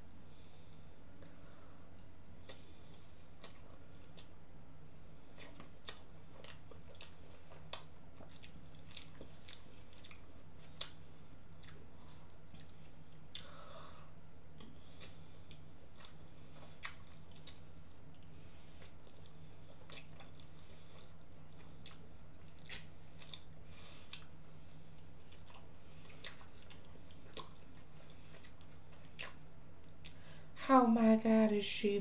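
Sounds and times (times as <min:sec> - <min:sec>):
steady low hum: 0:00.0 - 0:32.0
person chewing: 0:02.0 - 0:04.4, 0:05.2 - 0:30.2.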